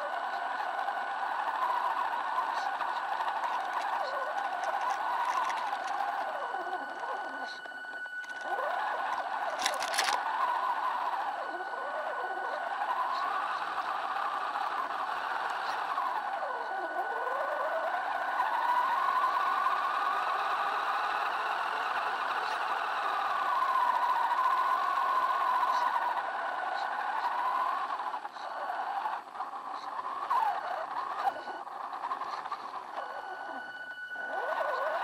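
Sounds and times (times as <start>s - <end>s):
toy truck electric motor whining: 0.0s - 35.0s.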